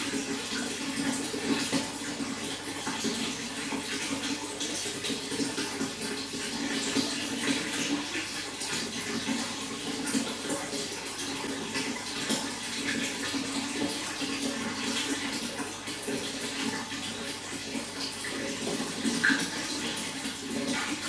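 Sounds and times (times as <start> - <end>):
running water flowing: 0.0 - 21.0.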